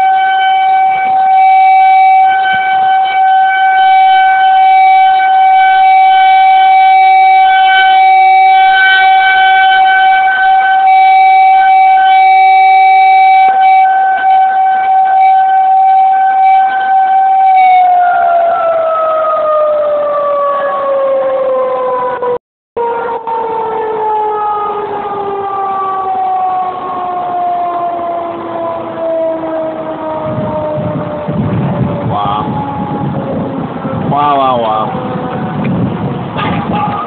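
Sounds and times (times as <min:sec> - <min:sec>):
tornado warning siren: 0:00.0 - 0:37.0.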